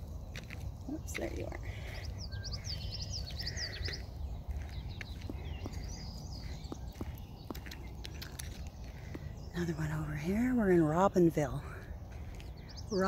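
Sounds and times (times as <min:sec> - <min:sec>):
songbirds singing: 0:00.0 - 0:13.0
steady low rumble: 0:00.0 - 0:13.0.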